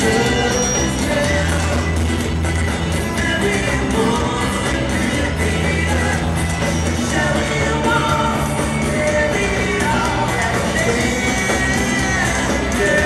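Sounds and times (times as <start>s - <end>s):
bass guitar: 0.0s - 13.0s
drums: 0.0s - 13.0s
electric guitar: 0.0s - 13.0s
person singing: 0.0s - 13.0s.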